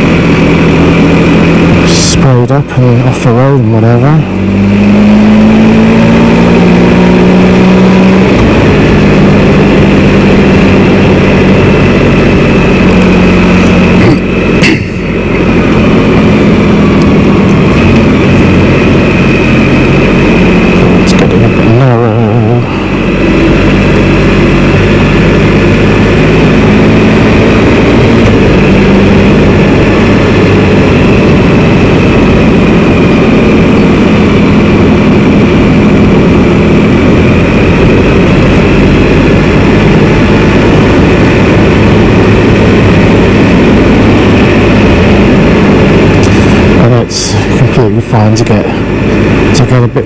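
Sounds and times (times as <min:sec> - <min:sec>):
motorcycle engine drone: 0:00.0 - 0:50.0
road and wind noise: 0:00.0 - 0:50.0.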